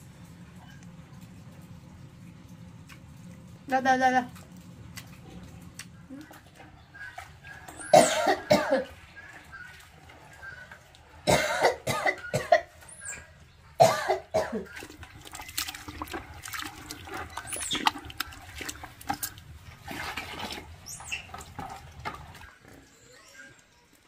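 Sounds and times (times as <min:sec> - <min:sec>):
water sloshing in a plastic bucket: 0:00.2 - 0:22.8.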